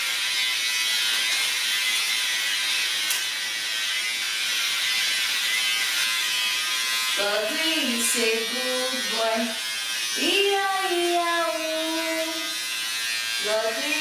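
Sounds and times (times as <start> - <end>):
electric hair clippers buzzing: 0.0 - 14.0.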